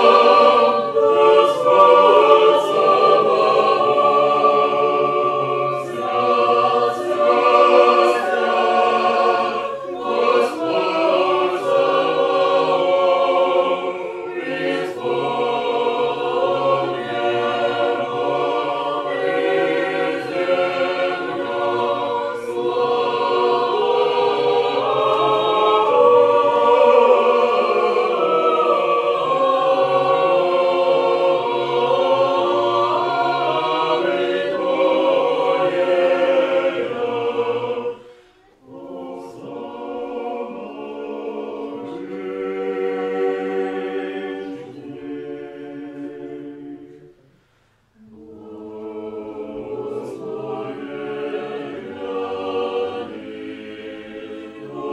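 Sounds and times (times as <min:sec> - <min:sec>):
mixed choir singing chant: 0:00.0 - 0:54.9.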